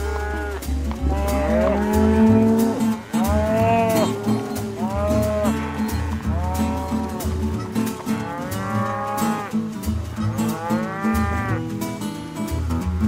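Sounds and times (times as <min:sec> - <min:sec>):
cattle mooing: 0:00.0 - 0:11.7
background music with steady beat: 0:00.0 - 0:13.0.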